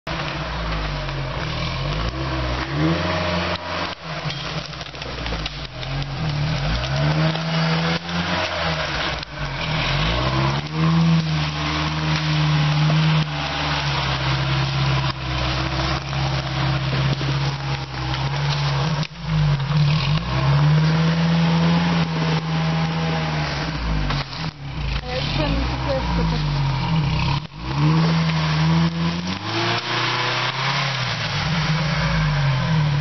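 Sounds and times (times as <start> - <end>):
off-road vehicle engine revving: 0.1 - 33.0.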